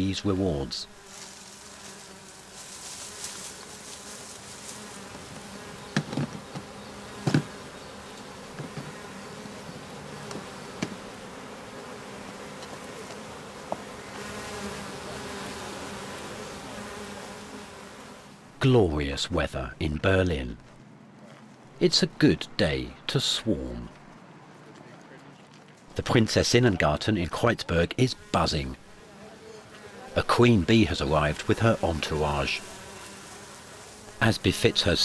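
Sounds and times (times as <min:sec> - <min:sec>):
bees buzzing: 0:00.0 - 0:20.5, 0:25.9 - 0:35.0.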